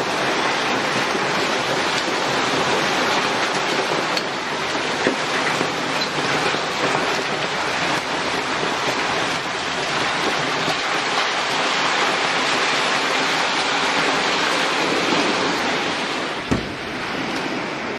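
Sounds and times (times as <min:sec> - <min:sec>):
heavy rain and hail hissing: 0:00.0 - 0:17.9.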